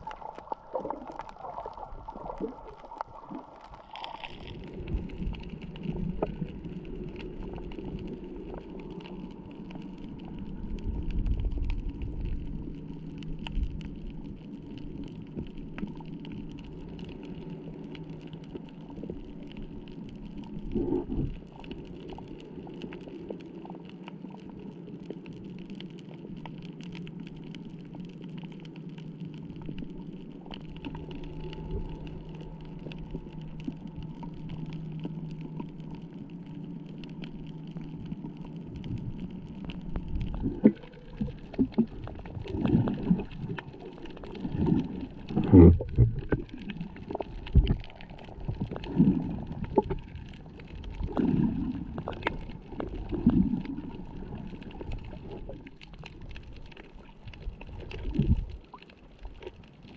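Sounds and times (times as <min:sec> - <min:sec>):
faint clicks and crackles: 0:00.0 - 0:59.9
low underwater hum: 0:00.0 - 0:59.9.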